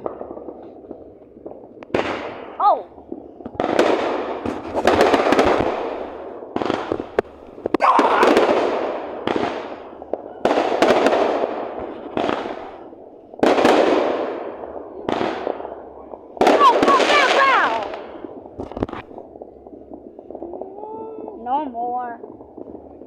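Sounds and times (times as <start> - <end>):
fireworks bangs with crackle: 0.0 - 23.0.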